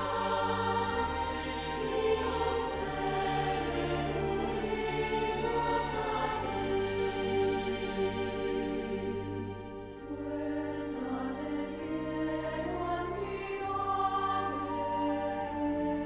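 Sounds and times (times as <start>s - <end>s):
choir singing sacred music: 0.0s - 16.0s.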